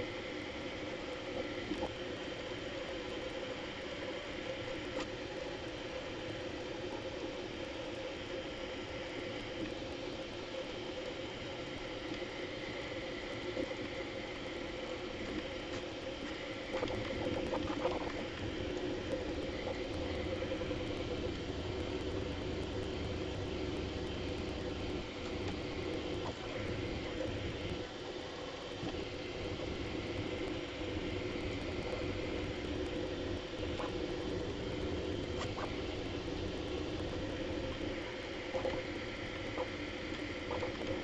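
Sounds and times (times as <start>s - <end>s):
fans whirring: 0.0s - 41.0s.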